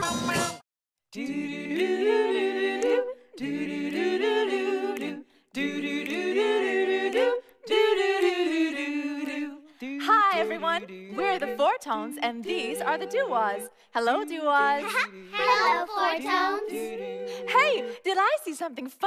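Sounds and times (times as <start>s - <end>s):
voices singing a cappella harmony: 1.1s - 19.0s.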